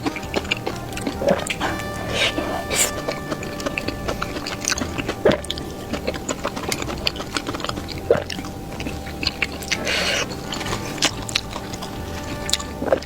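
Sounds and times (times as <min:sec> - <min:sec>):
person chewing fried food: 0:00.0 - 0:13.0
wet mouth sounds: 0:00.0 - 0:13.0.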